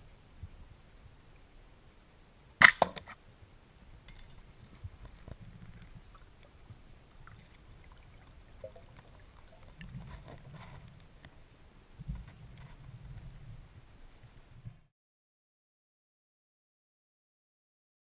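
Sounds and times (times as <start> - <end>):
faint underwater rumble: 0.0 - 14.9.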